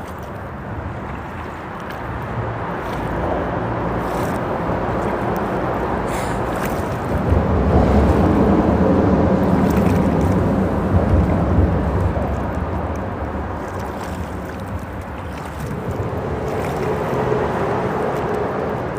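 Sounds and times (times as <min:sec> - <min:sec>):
creek water rushing: 0:00.0 - 0:18.9
rumbling freeway traffic: 0:00.0 - 0:18.9.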